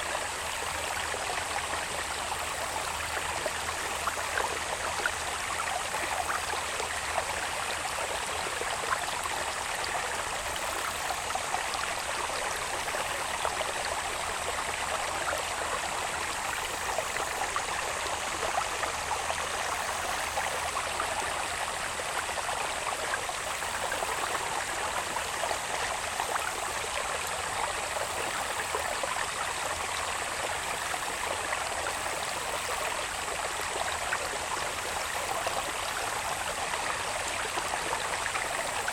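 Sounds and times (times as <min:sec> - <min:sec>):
water babbling and trickling: 0:00.0 - 0:38.9.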